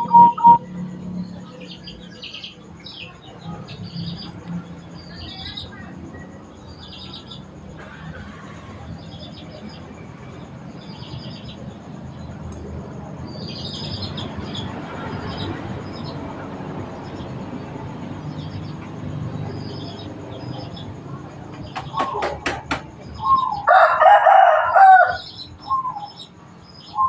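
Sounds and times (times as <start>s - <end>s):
small birds chirping: 0.0s - 23.9s, 24.8s - 27.0s.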